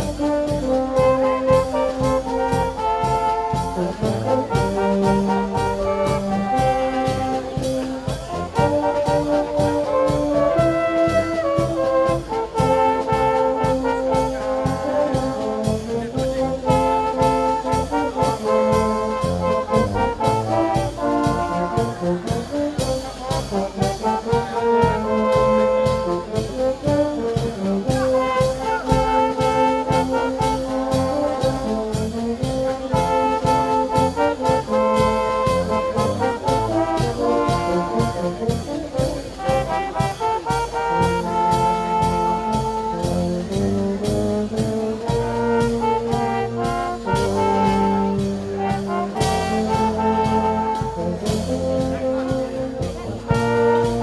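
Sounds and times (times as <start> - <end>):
brass band music with steady beat: 0.0 - 54.0.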